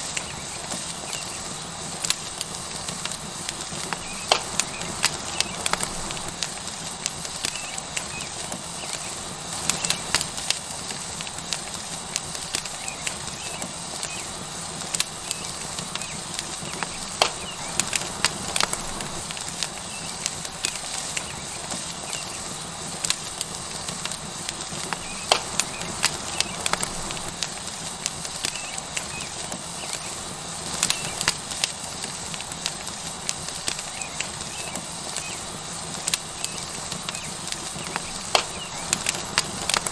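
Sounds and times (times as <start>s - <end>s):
burning wood crackling and popping: 0.0s - 39.9s
steak sizzling on hot stone: 0.0s - 39.9s.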